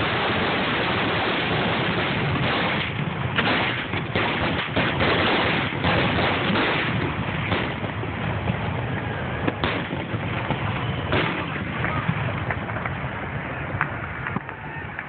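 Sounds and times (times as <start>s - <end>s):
fireworks bangs and crackle: 0.0s - 15.0s.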